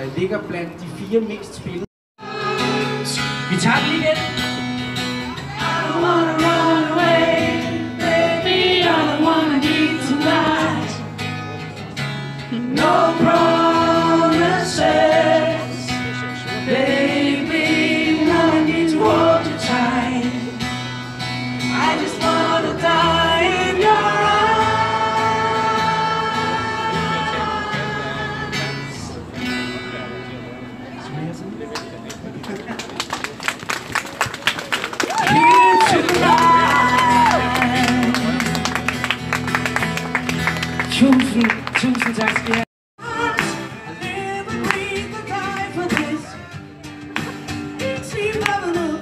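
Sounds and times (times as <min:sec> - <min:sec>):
guitar: 0:02.2 - 0:33.0, 0:35.0 - 0:49.0.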